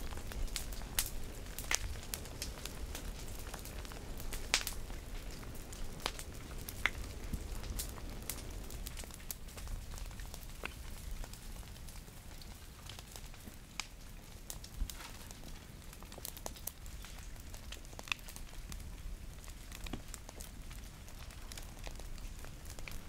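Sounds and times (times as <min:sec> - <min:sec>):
brush burning with crackles: 0:00.0 - 0:23.0.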